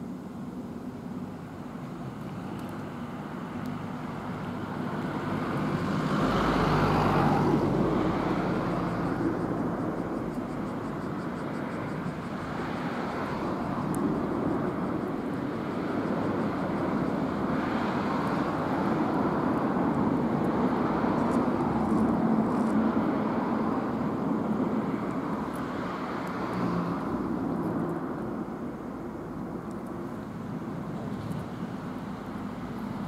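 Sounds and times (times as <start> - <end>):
passing motor vehicles rumble: 2.0 - 33.0.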